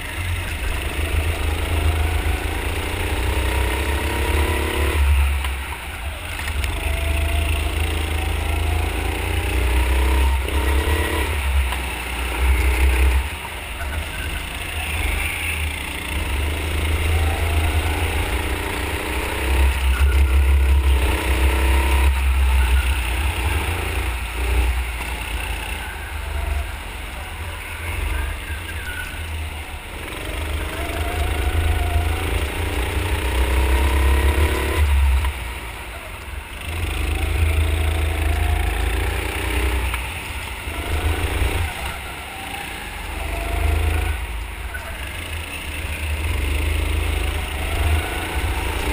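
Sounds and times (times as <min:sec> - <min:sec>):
go-kart engine revving: 0:00.0 - 0:48.9.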